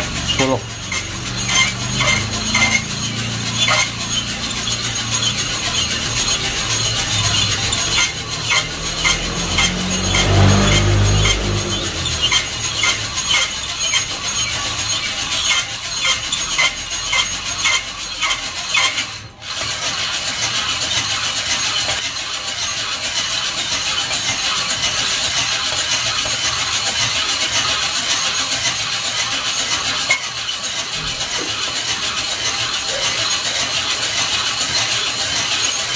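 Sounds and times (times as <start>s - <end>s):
coffee beans rattling in drum: 0.0s - 35.9s.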